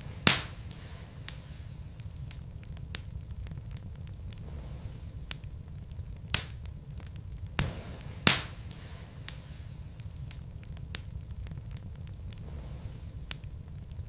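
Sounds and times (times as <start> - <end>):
sharp pops of fire: 0.0 - 14.0
wood fire crackling: 0.0 - 14.0.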